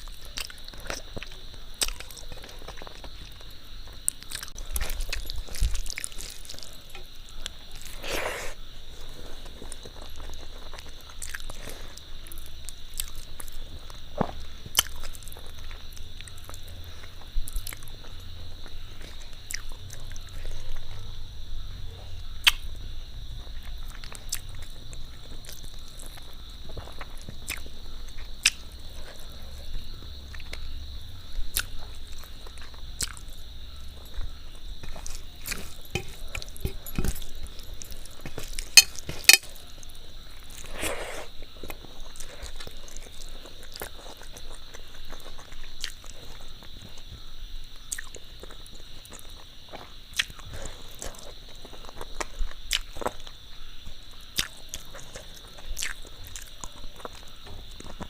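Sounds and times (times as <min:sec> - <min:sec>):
close chewing and biting food: 0:00.0 - 0:21.2, 0:22.2 - 0:47.2, 0:47.8 - 0:58.0.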